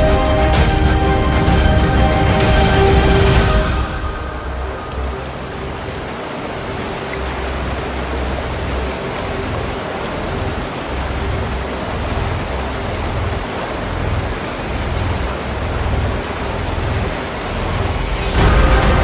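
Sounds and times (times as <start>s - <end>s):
low bass background music: 0.0s - 19.0s
water rushing over rocks: 0.0s - 19.0s.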